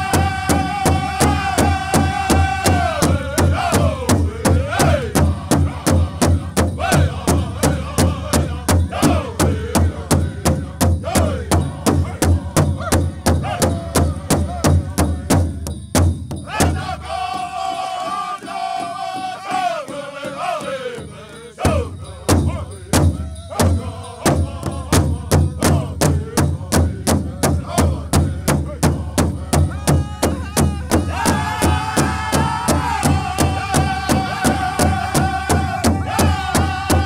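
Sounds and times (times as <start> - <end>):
group singing in unison: 0.0 - 15.6, 16.4 - 37.0
solo voice singing: 0.0 - 15.6, 16.5 - 37.0
big drum steady heavy beat: 0.0 - 37.0.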